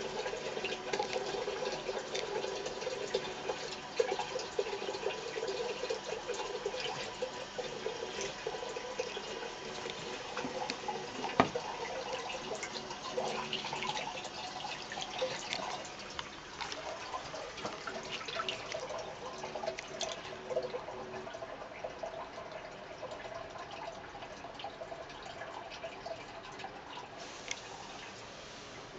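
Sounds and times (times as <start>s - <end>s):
water running from faucet into basin: 0.0s - 28.9s.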